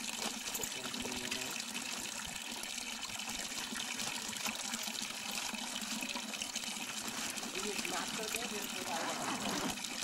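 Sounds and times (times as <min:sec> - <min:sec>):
water pouring from a spout: 0:00.0 - 0:10.0.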